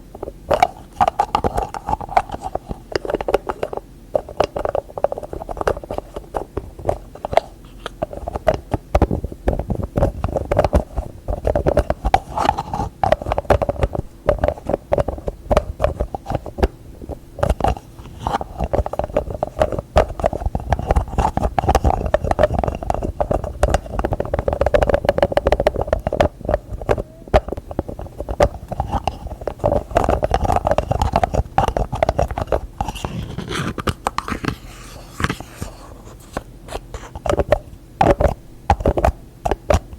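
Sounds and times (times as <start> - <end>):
fingertips and nails tapping: 0.5 - 34.6, 36.7 - 39.9.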